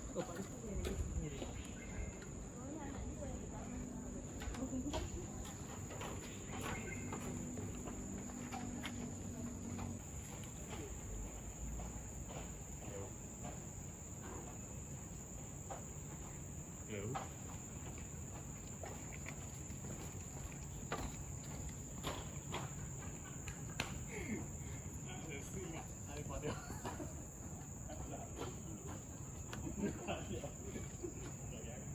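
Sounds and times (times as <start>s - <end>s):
insect chorus drone: 0.0s - 31.9s
footsteps: 0.1s - 31.6s.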